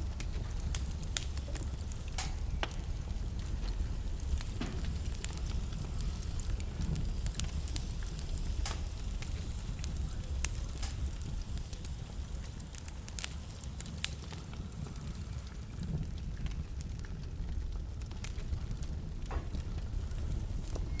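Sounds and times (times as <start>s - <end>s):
wood fire burning: 0.0s - 21.0s.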